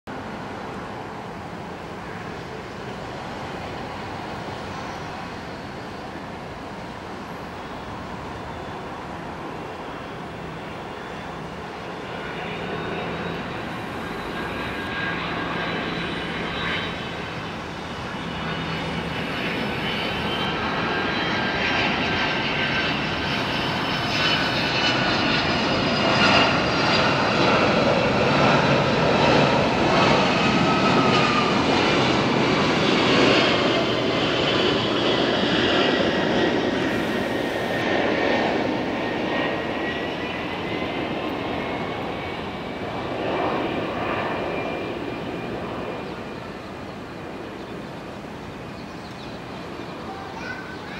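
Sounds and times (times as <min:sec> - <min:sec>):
jet engines passing overhead: 0:00.1 - 0:50.9
high engine whines: 0:00.2 - 0:50.8.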